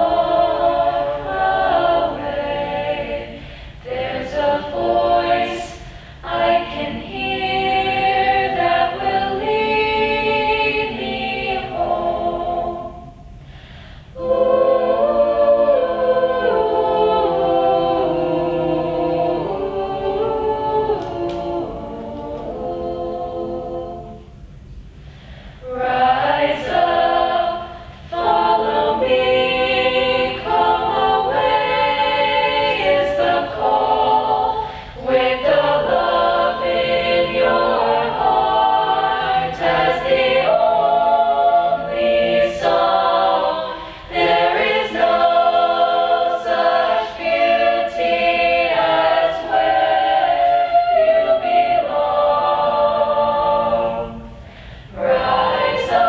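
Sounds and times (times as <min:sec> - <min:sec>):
choir singing sustained chords: 0:00.0 - 0:56.0.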